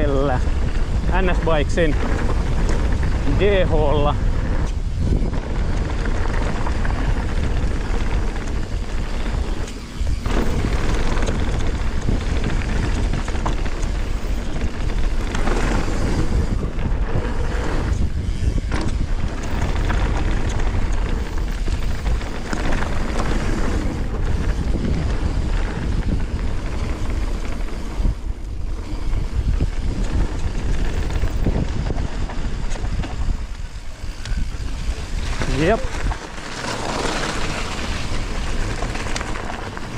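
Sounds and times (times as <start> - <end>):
bike rattling over bumps: 0.0 - 39.9
tyres rolling over gravel trail: 0.0 - 39.9
wind buffeting microphone: 0.0 - 39.9.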